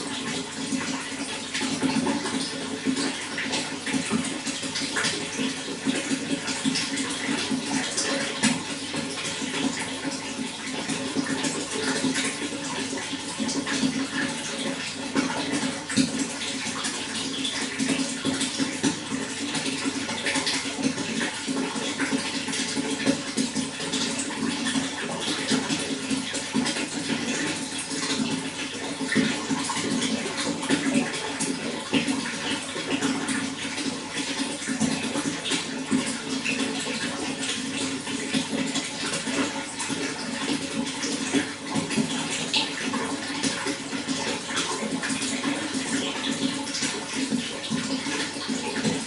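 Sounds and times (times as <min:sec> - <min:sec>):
water running and splashing: 0:00.0 - 0:49.0.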